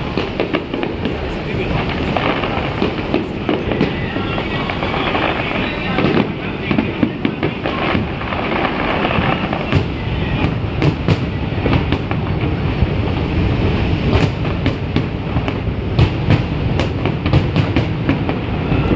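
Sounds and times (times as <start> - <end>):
firework cracks: 0.0 - 18.9
fireworks rolling rumble: 0.0 - 18.9.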